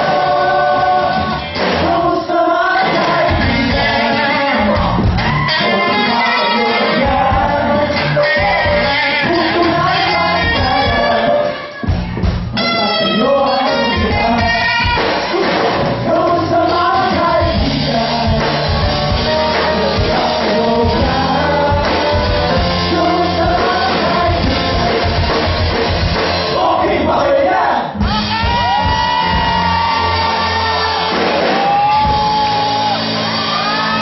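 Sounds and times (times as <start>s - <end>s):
male vocal group singing: 0.0s - 11.7s, 12.6s - 25.8s, 26.4s - 33.0s
live band with drums and keyboards: 0.0s - 34.0s.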